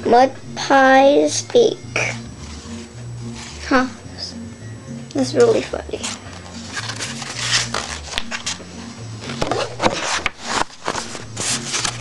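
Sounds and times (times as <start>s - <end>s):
background music low held notes: 0.0s - 12.0s.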